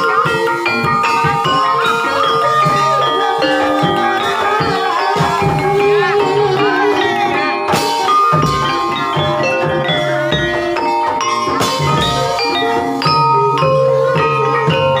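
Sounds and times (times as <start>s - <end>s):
regular drum beats: 0.0s - 15.0s
struck mallet instrument melody: 0.0s - 15.0s.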